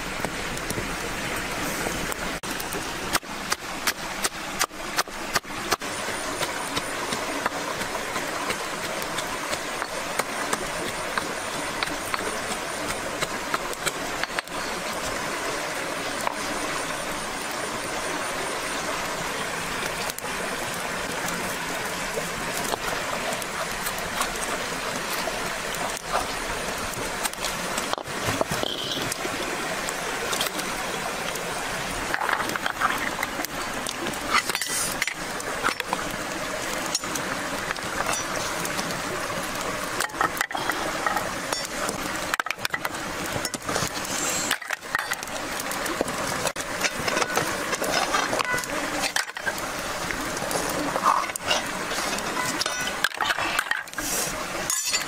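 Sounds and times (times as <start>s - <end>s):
steady rushing hiss: 0.0s - 55.0s.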